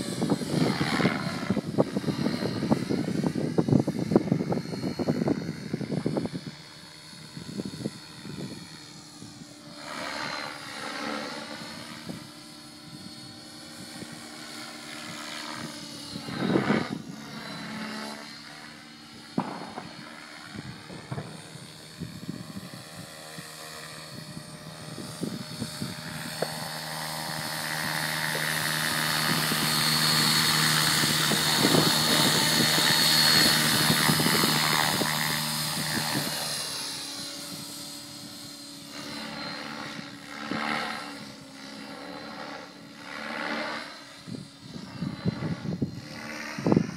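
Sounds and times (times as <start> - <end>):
model helicopter rotor drone: 0.0 - 46.9.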